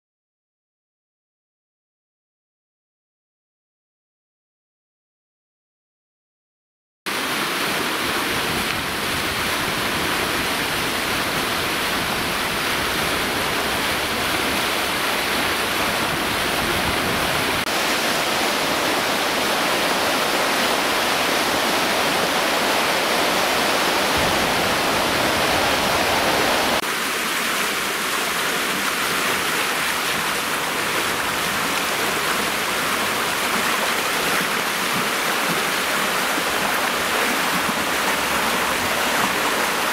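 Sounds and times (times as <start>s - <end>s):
river water rushing: 7.1s - 39.9s.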